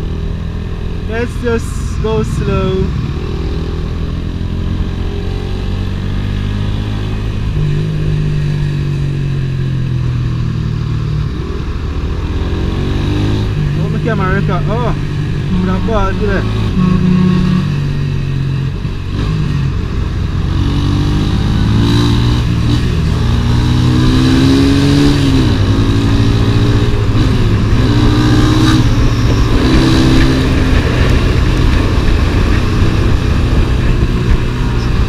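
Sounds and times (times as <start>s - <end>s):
motorcycle engine shifting gears: 2.0s - 35.0s.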